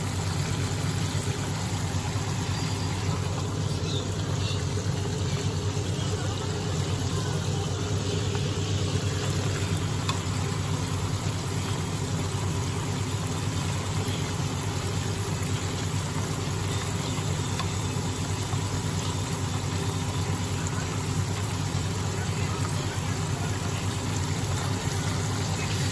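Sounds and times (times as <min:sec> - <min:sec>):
food deep-frying in hot oil: 0:00.0 - 0:25.9
steady low hum: 0:00.0 - 0:25.9.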